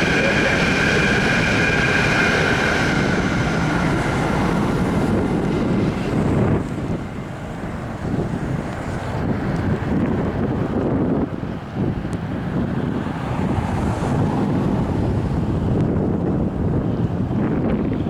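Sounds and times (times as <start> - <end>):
train rumbling: 0.0 - 18.0
wind buffeting microphone: 0.0 - 18.0.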